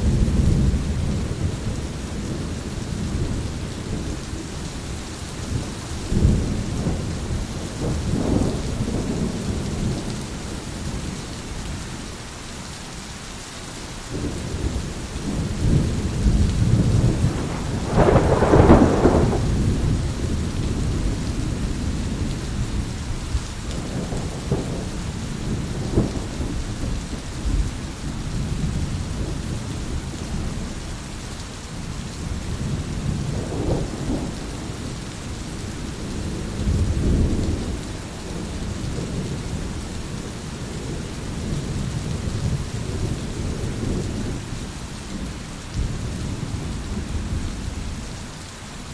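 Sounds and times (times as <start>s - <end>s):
rolling thunder: 0.0s - 11.6s, 14.1s - 30.8s, 31.8s - 48.1s
steady rain: 0.0s - 48.9s.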